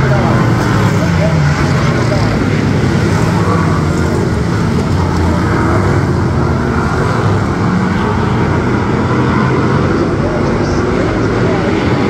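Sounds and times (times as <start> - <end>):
racing car engine running: 0.0 - 12.0.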